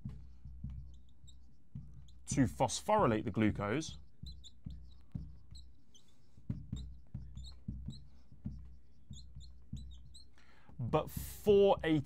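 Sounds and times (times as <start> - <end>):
marker squeaking on whiteboard: 0.0 - 12.0.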